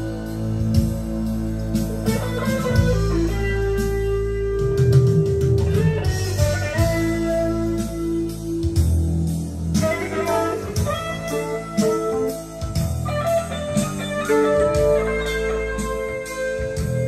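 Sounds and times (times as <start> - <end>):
guitar-led music with bass: 0.0 - 17.0.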